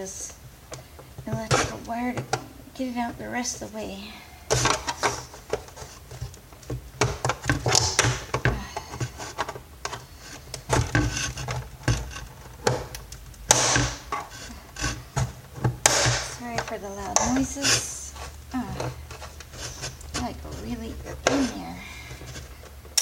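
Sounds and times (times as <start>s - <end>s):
plastic parts clacking and scraping: 0.6s - 3.7s, 4.4s - 23.0s.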